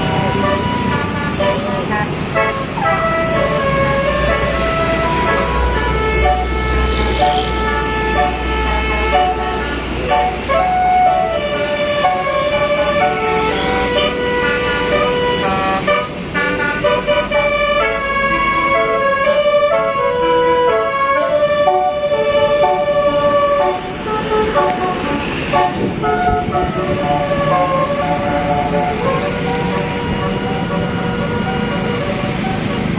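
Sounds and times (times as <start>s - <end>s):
multi-tone air horn melody: 0.0s - 32.9s.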